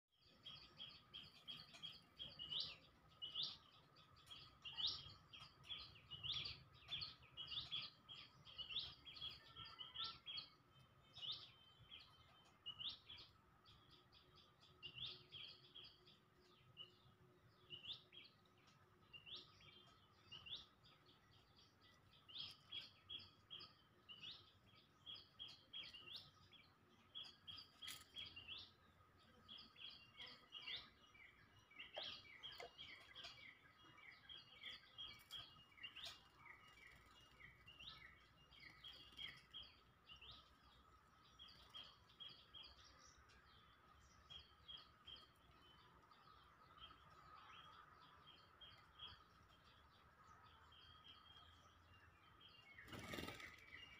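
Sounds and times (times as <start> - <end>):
small birds chirping: 0.1 - 53.9.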